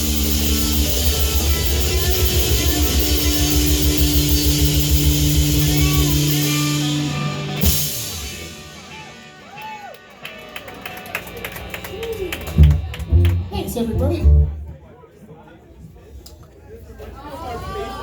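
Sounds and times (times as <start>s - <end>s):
live rock band playing: 0.0s - 14.8s.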